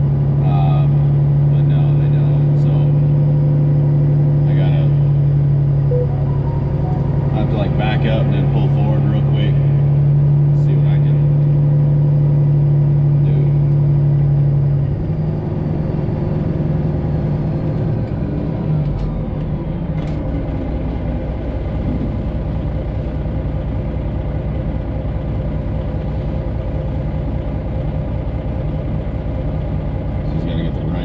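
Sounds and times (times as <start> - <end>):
truck diesel engine running: 0.0 - 31.0.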